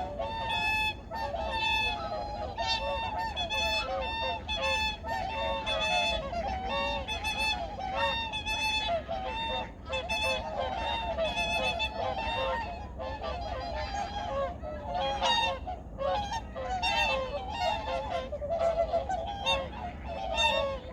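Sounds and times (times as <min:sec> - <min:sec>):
flock of waterfowl calling: 0:00.0 - 0:20.9.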